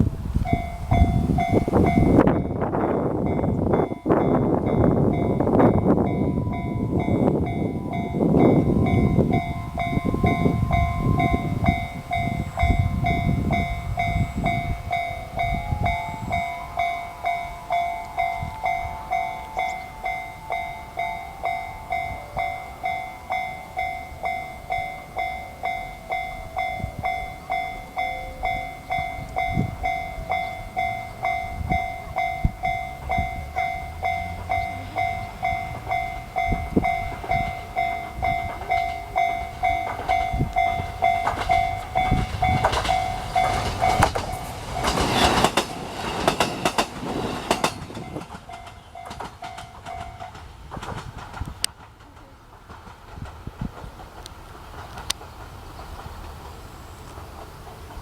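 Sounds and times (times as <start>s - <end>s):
train passing: 0.0s - 58.0s
level crossing alarm dinging: 0.5s - 50.4s.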